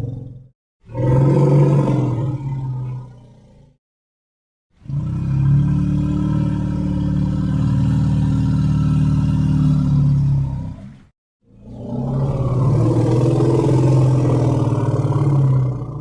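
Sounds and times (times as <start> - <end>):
deep dinosaur bellow: 0.0 - 3.8, 4.8 - 16.0.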